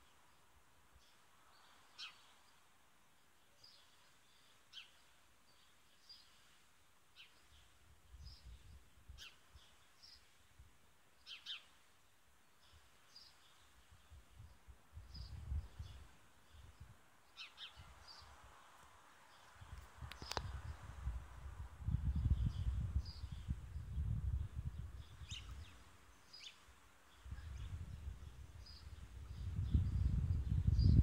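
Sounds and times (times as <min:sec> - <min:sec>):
faint bird chirps: 0:00.0 - 0:10.4, 0:11.2 - 0:21.0, 0:21.8 - 0:31.0.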